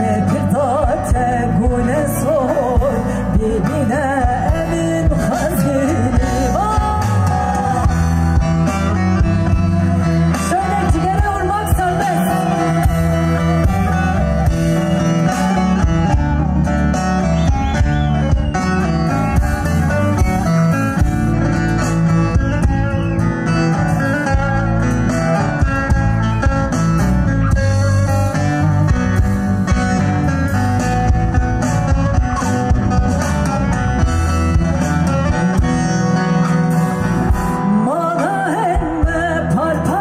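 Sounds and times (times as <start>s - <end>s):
live band music: 0.0s - 40.0s.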